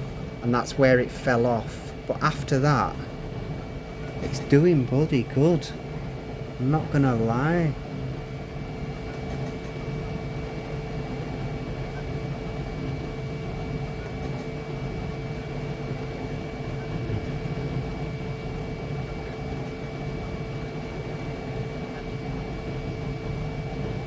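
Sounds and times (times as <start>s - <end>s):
constant high whine: 0.0s - 24.0s
printer fans and motors whirring: 0.0s - 24.0s.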